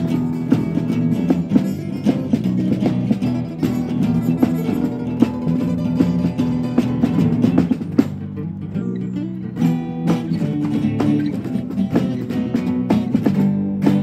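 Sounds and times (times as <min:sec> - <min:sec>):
acoustic band instrumental: 0:00.0 - 0:14.0
guitar plucked and strummed: 0:00.0 - 0:14.0.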